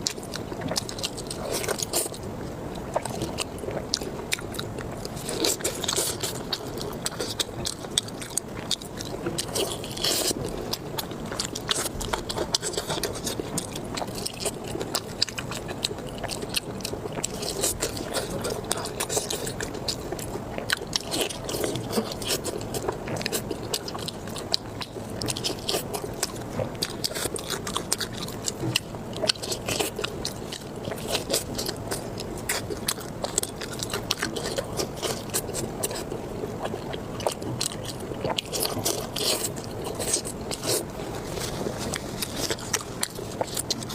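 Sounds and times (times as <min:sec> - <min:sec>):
person biting and chewing food: 0:00.0 - 0:43.9.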